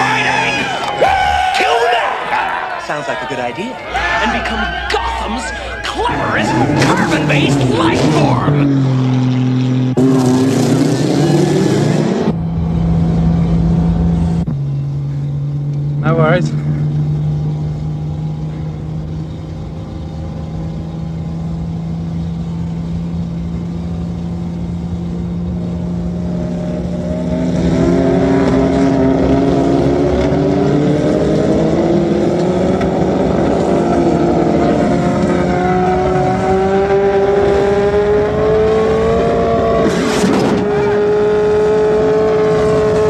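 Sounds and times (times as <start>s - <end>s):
vehicle engine rising in pitch: 3.9s - 43.0s.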